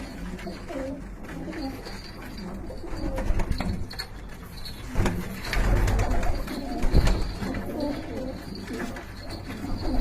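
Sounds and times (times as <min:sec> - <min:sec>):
pigeons cooing: 0:00.0 - 0:03.9, 0:04.9 - 0:10.0.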